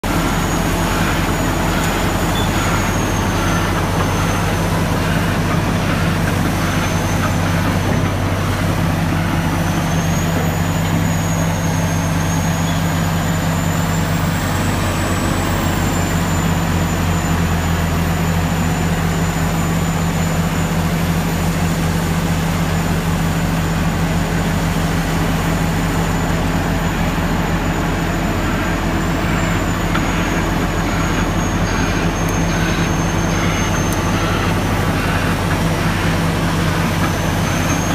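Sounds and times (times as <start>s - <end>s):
bulldozer diesel engine droning: 0.0s - 37.9s.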